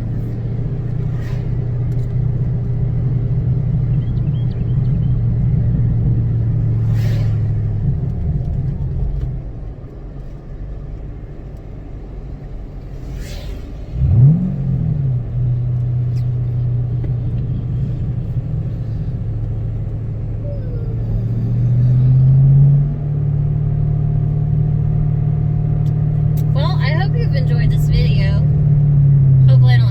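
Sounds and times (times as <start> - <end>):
car engine revving: 0.0 - 9.6, 12.0 - 29.9
car engine droning: 0.0 - 29.9.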